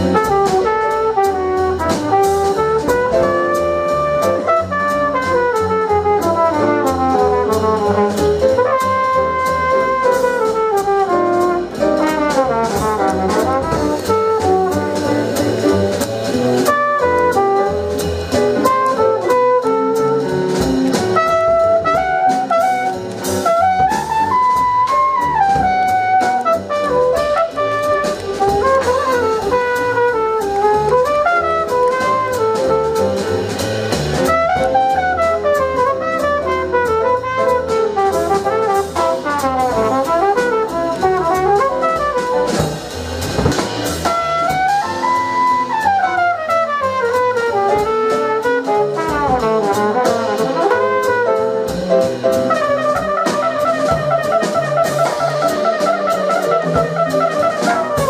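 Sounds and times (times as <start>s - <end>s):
trumpet solo: 0.0s - 33.6s, 34.2s - 58.0s
double bass: 0.0s - 58.0s
drum kit: 0.0s - 58.0s.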